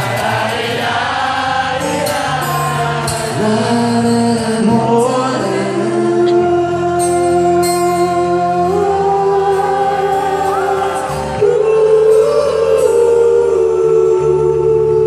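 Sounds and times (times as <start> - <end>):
acoustic guitar: 0.0 - 15.0
man singing into microphone: 1.8 - 15.0.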